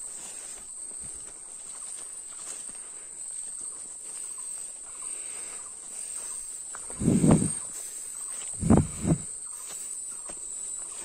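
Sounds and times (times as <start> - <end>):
footsteps in undergrowth: 0.0 - 11.0
insects buzzing: 0.0 - 11.0.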